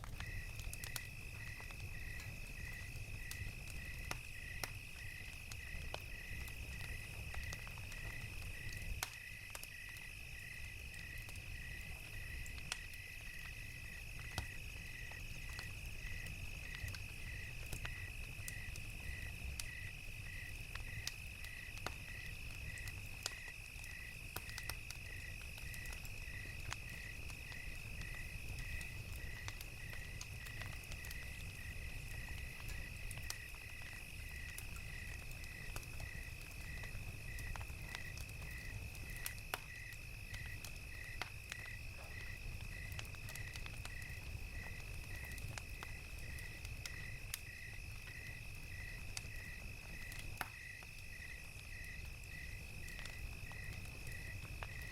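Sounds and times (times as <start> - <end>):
crickets chirping: 0.0 - 54.9
wood fire crackling: 0.0 - 54.9.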